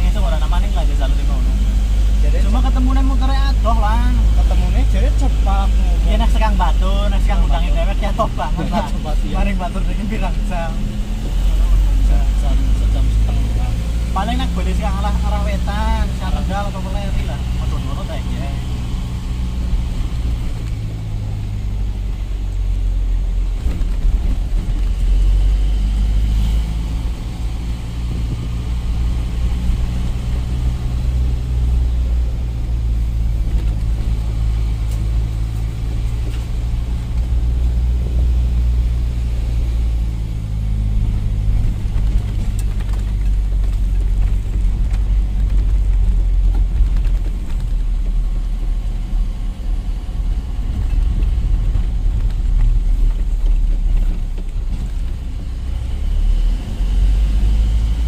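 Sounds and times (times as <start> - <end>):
truck engine droning: 0.0 - 58.0.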